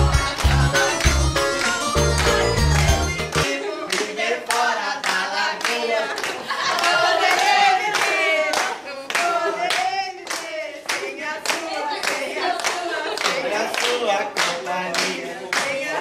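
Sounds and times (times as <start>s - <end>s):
group of adults singing: 0.0s - 16.0s
rhythmic clapping: 0.0s - 16.0s.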